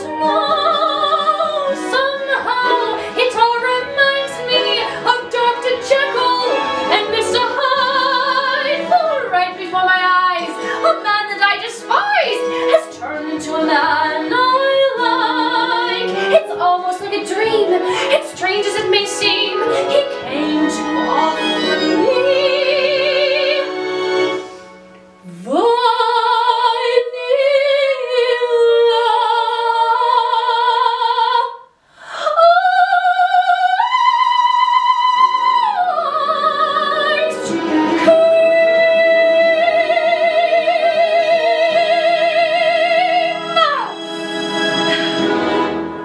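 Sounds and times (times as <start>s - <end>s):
woman singing opera: 0.0s - 23.9s, 25.2s - 45.3s.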